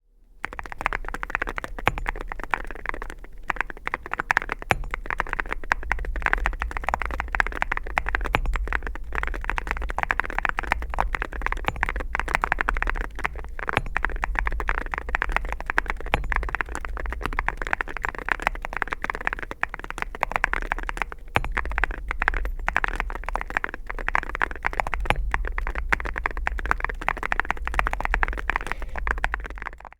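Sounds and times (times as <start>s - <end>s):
fast typing on mechanical keyboard: 0.4s - 29.9s.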